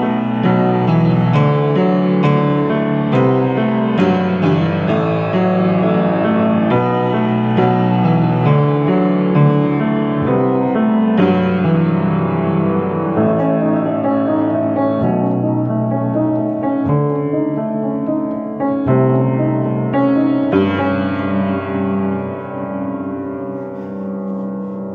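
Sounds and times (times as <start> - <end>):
piano playing slow chords: 0.0 - 24.9.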